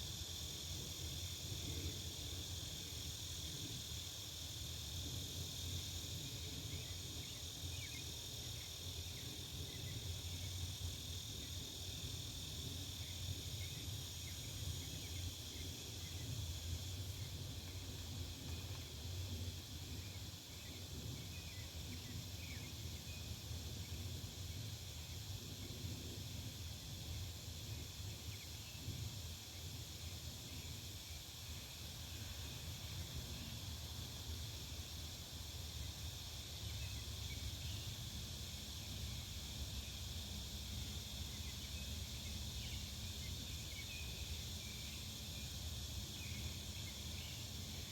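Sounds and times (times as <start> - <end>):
insects chirring: 0.0 - 47.9.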